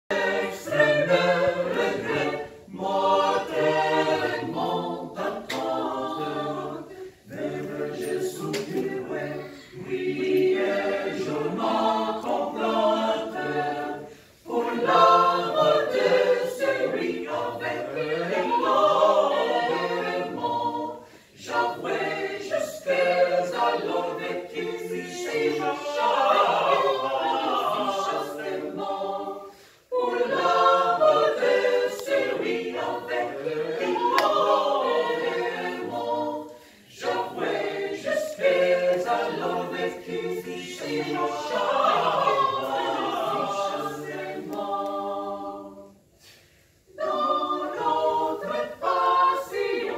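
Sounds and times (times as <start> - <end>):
mixed choir singing a cappella: 0.0 - 49.9.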